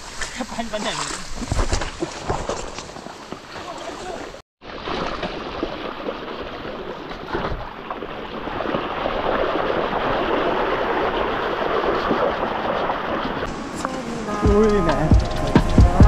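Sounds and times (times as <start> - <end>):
bike tyres splashing through water: 0.0 - 13.5.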